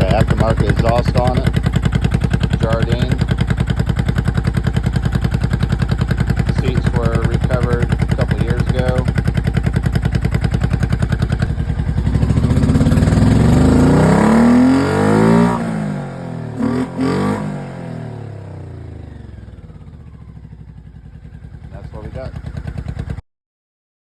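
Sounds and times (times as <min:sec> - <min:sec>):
motorcycle engine idling and revving: 0:00.0 - 0:23.2.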